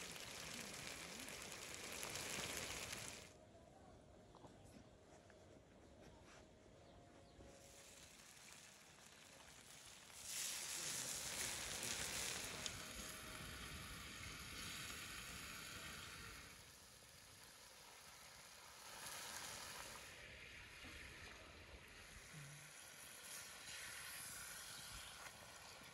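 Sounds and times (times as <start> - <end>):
fish sizzling in oil: 0.0 - 3.3, 7.6 - 25.9.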